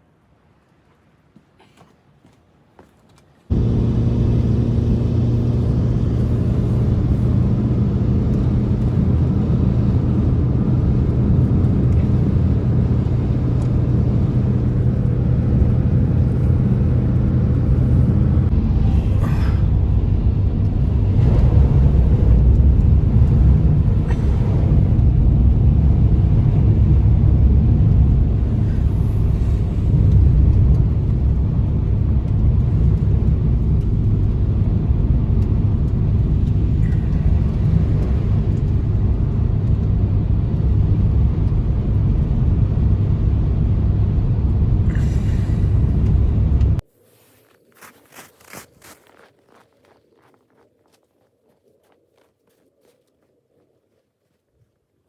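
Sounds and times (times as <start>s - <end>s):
blizzard wind blowing hard: 3.5s - 53.7s.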